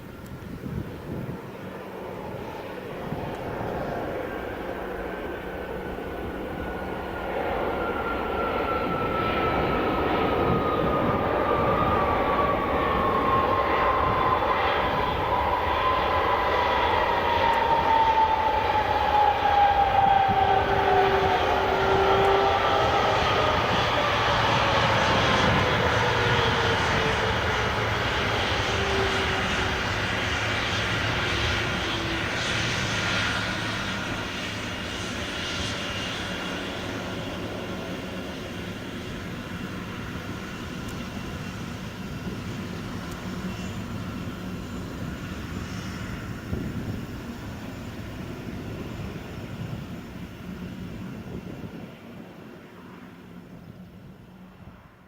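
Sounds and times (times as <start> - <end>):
jet engine roar with whine: 0.0 - 55.0.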